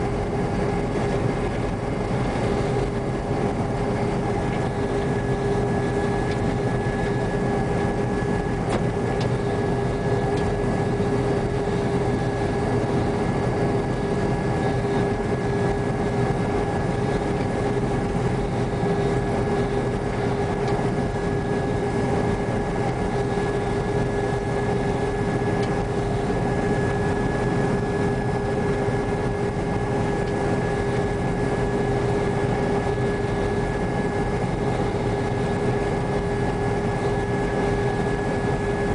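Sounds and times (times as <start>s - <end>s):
combine harvester drone with whine: 0.0s - 38.9s.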